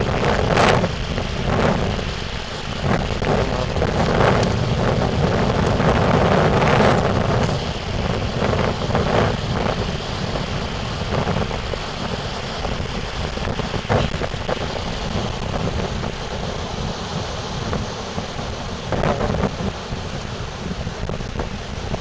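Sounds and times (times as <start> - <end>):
gusting wind buffeting microphone: 0.0 - 22.0
surf washing on beach: 0.0 - 22.0.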